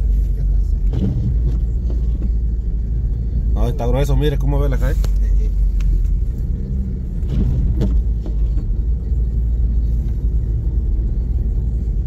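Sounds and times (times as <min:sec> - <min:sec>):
car rumble on snowy road: 0:00.0 - 0:12.0.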